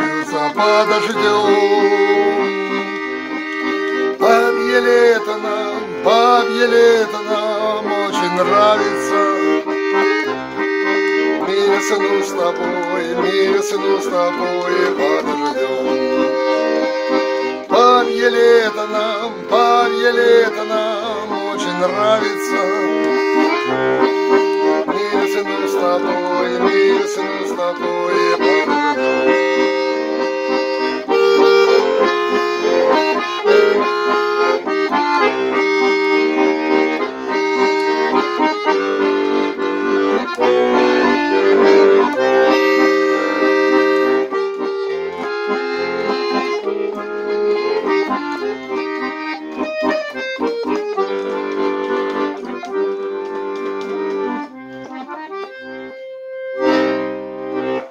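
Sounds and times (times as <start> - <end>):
button accordion playing: 0.0 - 57.9.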